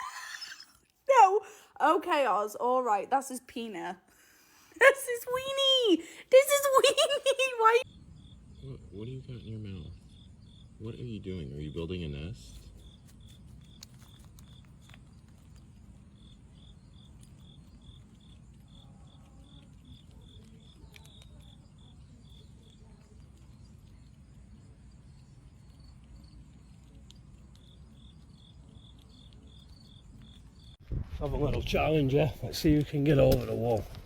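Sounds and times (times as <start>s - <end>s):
cricket chirping: 5.2s - 34.0s.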